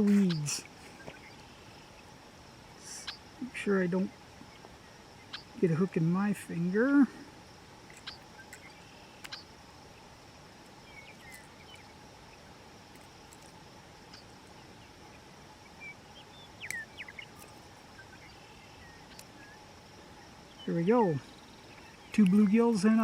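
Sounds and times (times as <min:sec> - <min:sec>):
bird chirps: 0:00.0 - 0:02.1, 0:02.8 - 0:06.9, 0:07.9 - 0:10.1, 0:10.8 - 0:12.5, 0:14.0 - 0:23.0
faint insect hum: 0:00.0 - 0:23.0.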